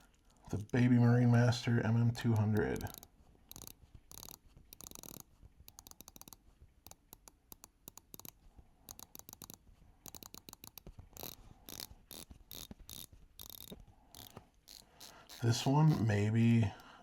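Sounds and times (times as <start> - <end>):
watch bezel ratcheting clicks: 2.2 - 16.2.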